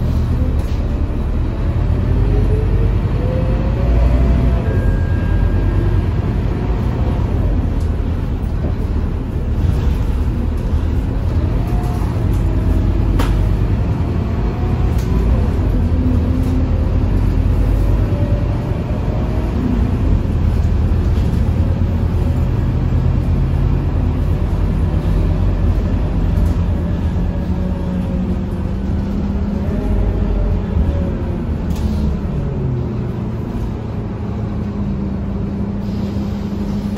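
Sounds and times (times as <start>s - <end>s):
bus engine and road rumble: 0.0s - 36.9s.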